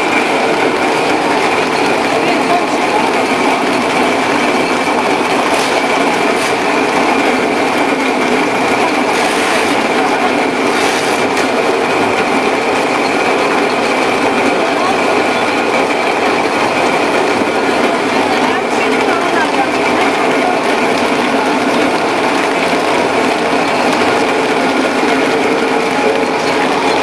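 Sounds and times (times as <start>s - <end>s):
high-pitched machine whine: 0.0s - 27.0s
machinery and conveyor rattling: 0.0s - 27.0s.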